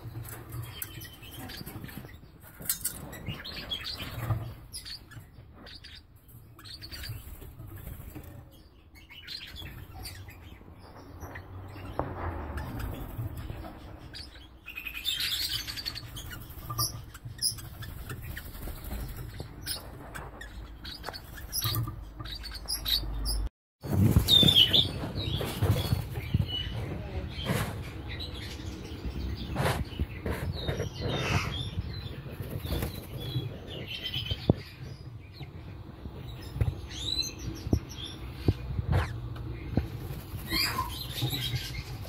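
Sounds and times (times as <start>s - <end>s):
parakeets chirping: 0.0s - 42.0s.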